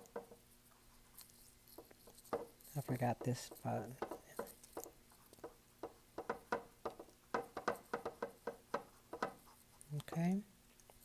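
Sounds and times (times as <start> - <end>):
paintbrush tapping on canvas: 0.0 - 0.4, 1.8 - 10.3.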